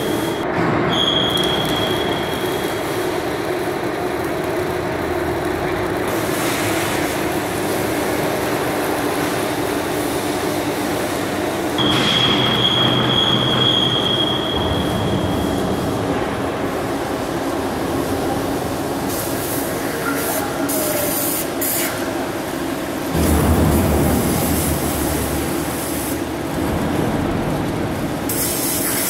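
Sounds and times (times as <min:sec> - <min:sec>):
high steady whine: 0:00.0 - 0:21.0, 0:21.9 - 0:29.0
workshop machinery hum: 0:00.0 - 0:29.0.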